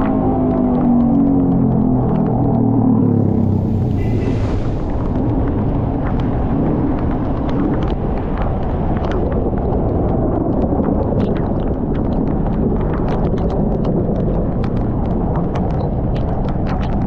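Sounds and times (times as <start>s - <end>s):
raindrops striking microphone: 0.0s - 17.0s
wind and engine rumble: 0.0s - 17.0s.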